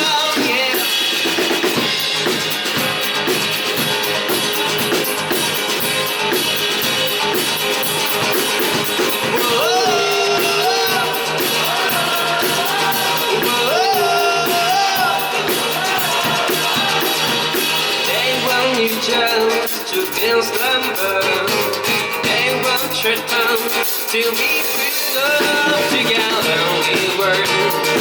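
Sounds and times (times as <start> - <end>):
held melodic line with slides: 0.0 - 28.0
live rock band playing: 0.0 - 28.0.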